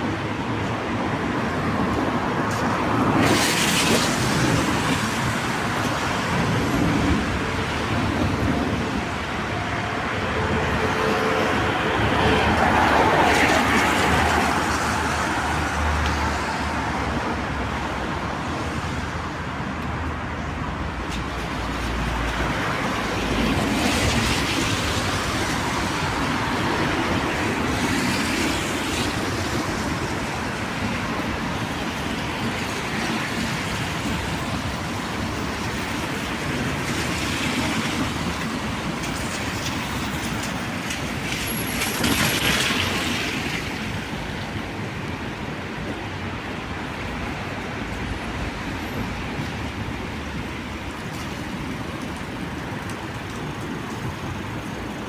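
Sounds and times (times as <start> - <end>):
rain: 0.0 - 55.0
vehicles passing: 0.0 - 55.0
tyres hissing on wet road: 0.3 - 55.0.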